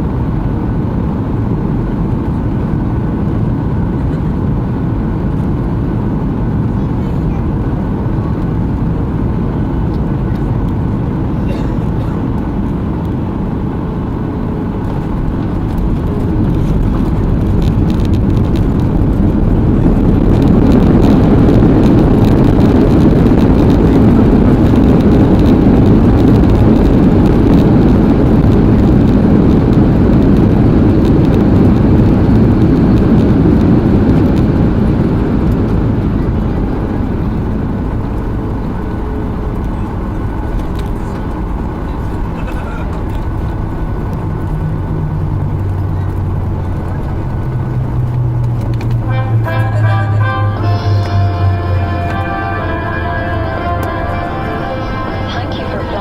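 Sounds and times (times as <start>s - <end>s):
jet engine cabin roar: 0.0s - 56.0s.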